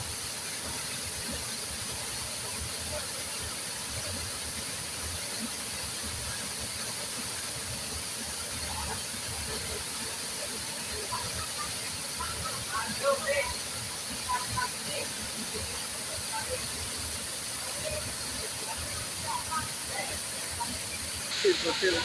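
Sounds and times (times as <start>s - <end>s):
waterfall rushing: 0.1s - 22.0s.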